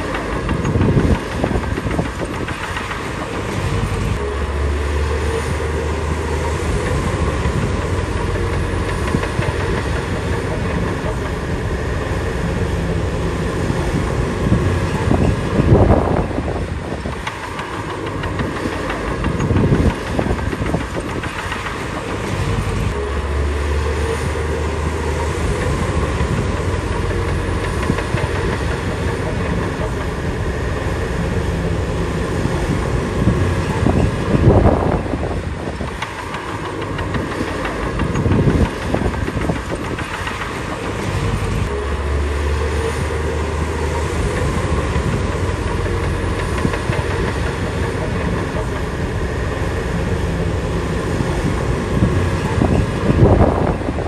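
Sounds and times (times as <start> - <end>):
bulldozer diesel engine: 0.0 - 54.0
steel tracks clattering: 0.0 - 54.0.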